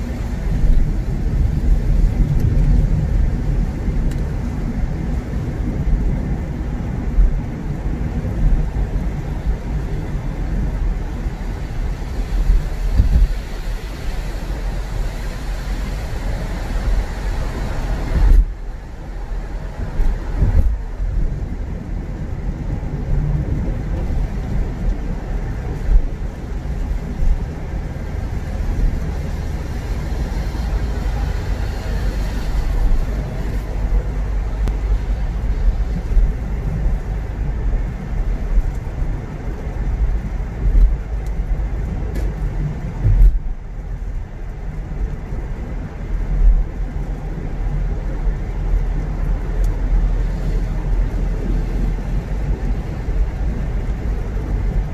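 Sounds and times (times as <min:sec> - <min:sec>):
car engine and tyres rumbling: 0:00.0 - 0:54.9.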